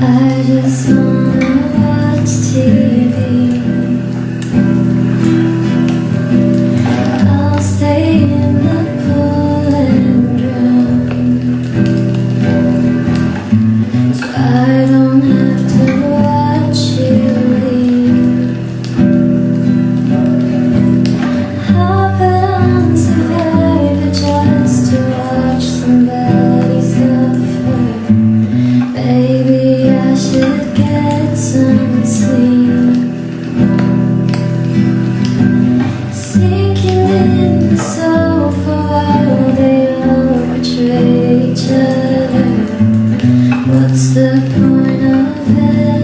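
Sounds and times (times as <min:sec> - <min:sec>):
strummed acoustic guitar: 0:00.0 - 0:46.0
woman singing: 0:00.0 - 0:46.0.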